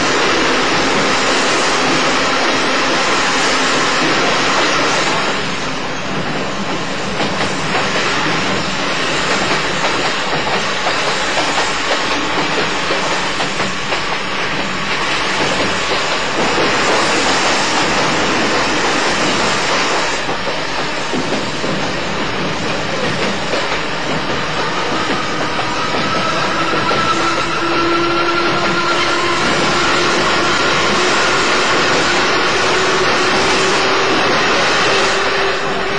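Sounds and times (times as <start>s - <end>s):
electric train running: 0.0s - 35.9s.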